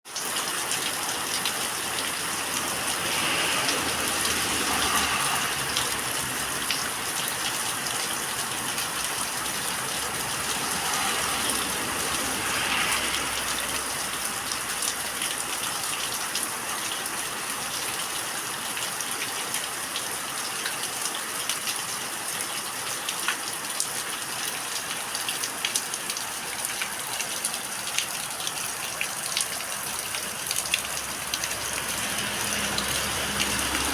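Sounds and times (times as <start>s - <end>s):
rain falling on plants: 0.1s - 33.9s.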